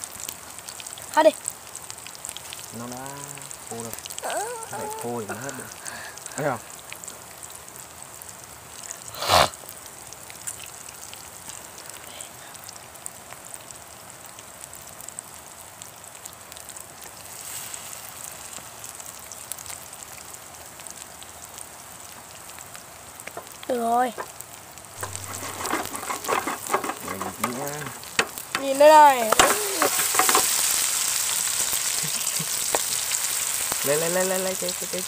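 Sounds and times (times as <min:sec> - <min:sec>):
cakes sizzling in oil: 0:00.0 - 0:35.0.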